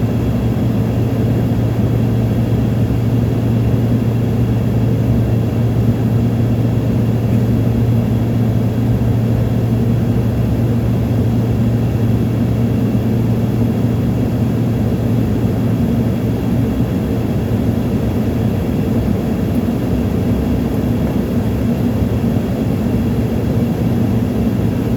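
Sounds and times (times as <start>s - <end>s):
airliner cabin drone: 0.0s - 24.9s.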